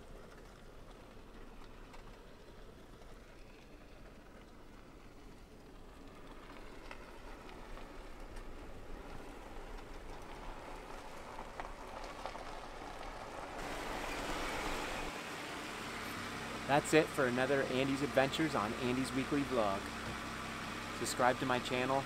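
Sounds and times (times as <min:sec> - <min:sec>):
tyres crackling on dirt trail: 0:00.0 - 0:22.0.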